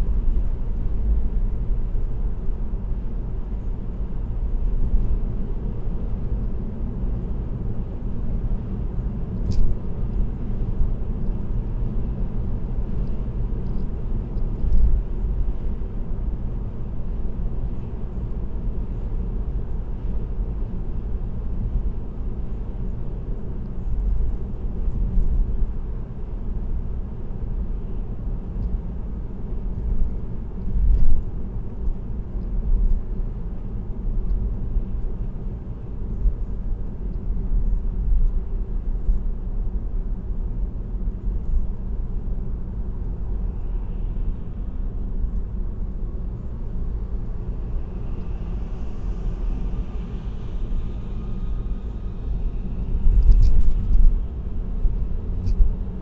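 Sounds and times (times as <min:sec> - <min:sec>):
car cruising road noise: 0:00.0 - 0:56.0.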